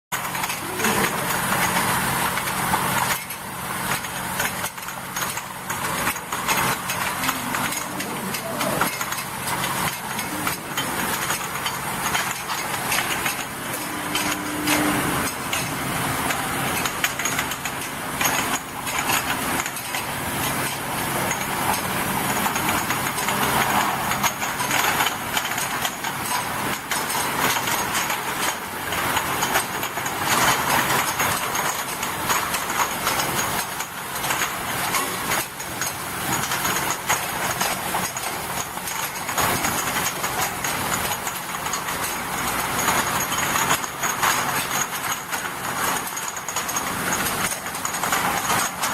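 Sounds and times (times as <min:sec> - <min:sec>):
washing machine motor hum: 0:00.1 - 0:48.9
bottles rattling and clicking: 0:00.2 - 0:48.9.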